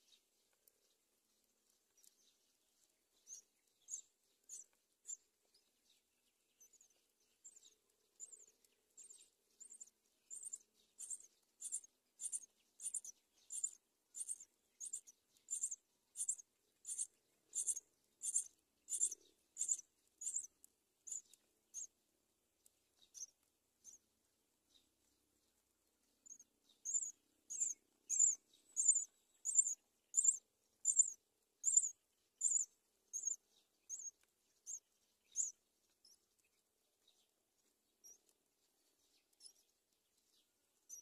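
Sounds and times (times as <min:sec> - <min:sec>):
nestlings chirping: 0:01.5 - 0:22.0, 0:22.9 - 0:41.0.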